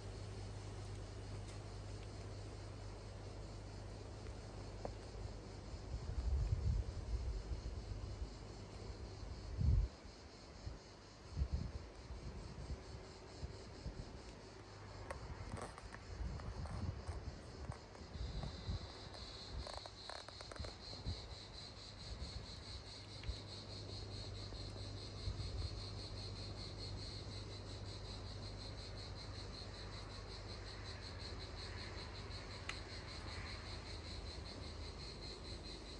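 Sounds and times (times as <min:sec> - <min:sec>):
crickets trilling: 0:00.0 - 0:35.9.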